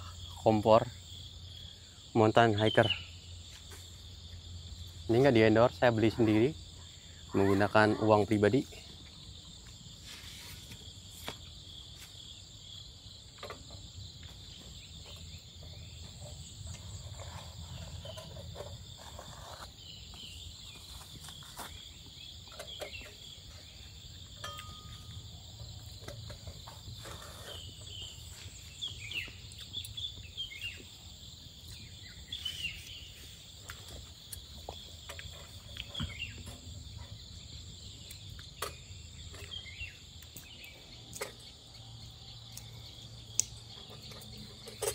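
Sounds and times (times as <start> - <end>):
crickets and insects chirping: 0.0 - 44.9.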